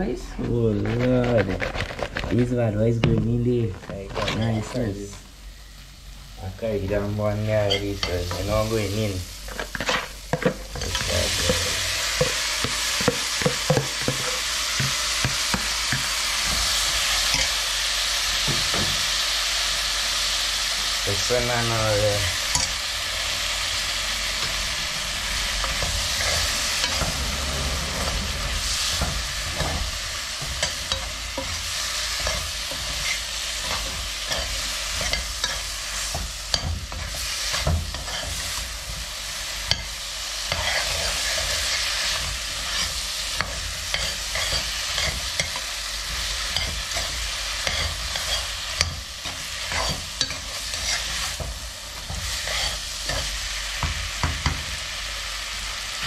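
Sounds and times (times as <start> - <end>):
food sizzling in a pot: 0.9 - 56.0.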